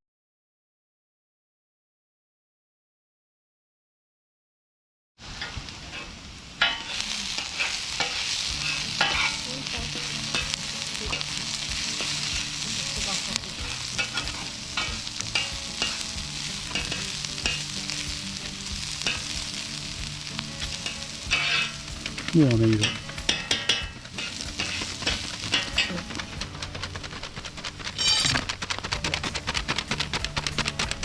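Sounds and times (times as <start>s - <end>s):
filling sizzling in a pan: 5.2s - 31.0s.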